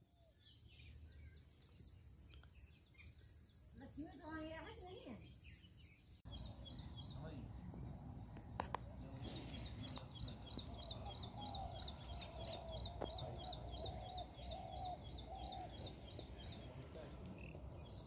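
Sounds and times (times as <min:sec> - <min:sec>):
bird chirping: 0:00.0 - 0:18.0
outdoor background noise: 0:00.0 - 0:18.0.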